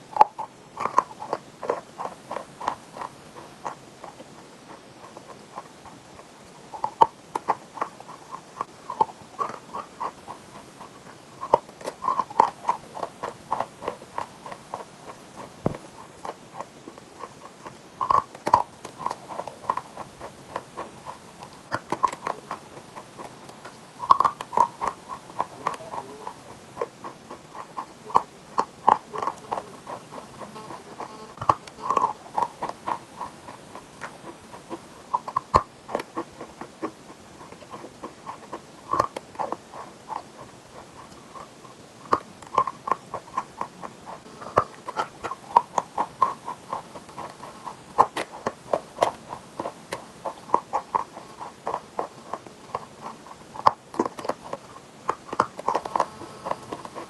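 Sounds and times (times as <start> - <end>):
chewing chalk crunches: 0.0 - 57.0.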